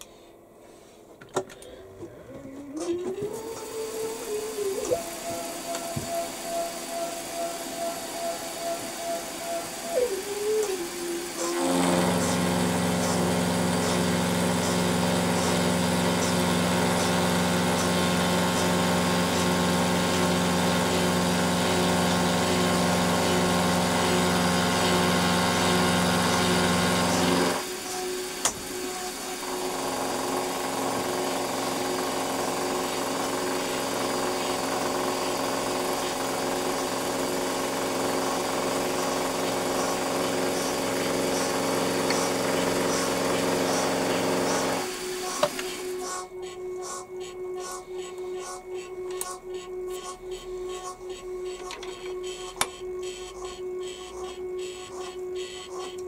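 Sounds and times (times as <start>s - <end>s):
milling machine spindle running: 2.3s - 56.0s
end mill cutting metal: 3.2s - 56.0s.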